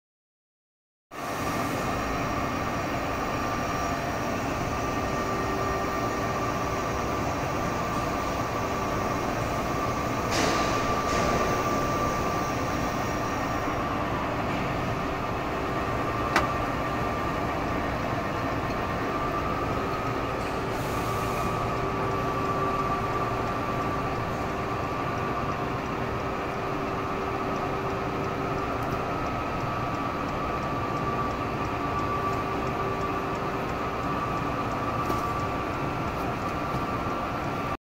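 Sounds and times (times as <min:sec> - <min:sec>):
lathe mechanical hum: 0:01.2 - 0:37.8.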